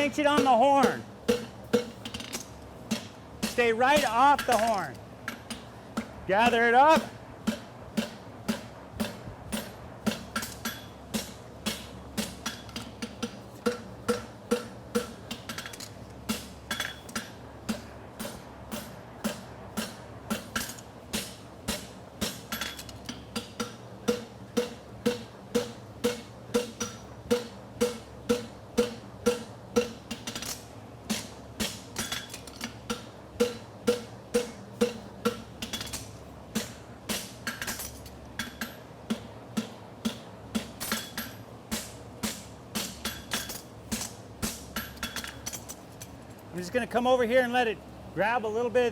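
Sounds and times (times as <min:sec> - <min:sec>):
low fan buzz: 0:00.0 - 0:48.9
hammer striking steel on anvil: 0:00.2 - 0:45.4.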